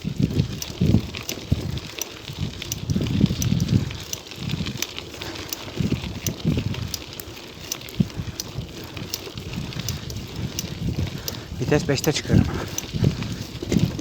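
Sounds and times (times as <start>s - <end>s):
bicycle ticking: 0.0s - 14.0s
wind rumbling on microphone: 0.0s - 14.0s.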